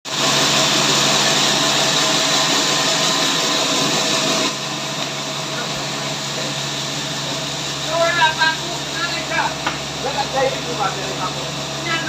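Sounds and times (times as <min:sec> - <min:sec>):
power saw cutting wood: 0:00.1 - 0:12.0.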